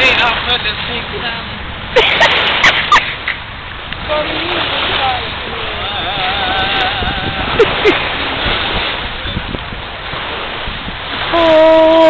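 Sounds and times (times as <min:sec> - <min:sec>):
lake waves: 0:00.0 - 0:12.0
wind buffeting microphone: 0:00.0 - 0:12.0.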